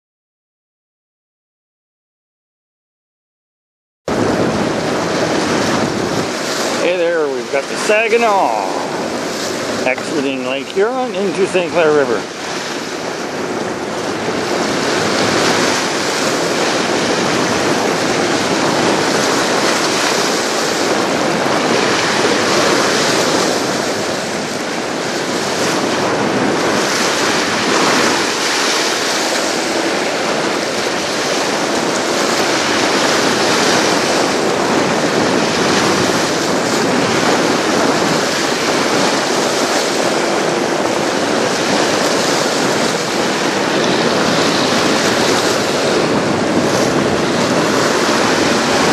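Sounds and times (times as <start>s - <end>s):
waves washing on shore: 4.1s - 48.9s
wind buffeting microphone: 4.1s - 48.9s.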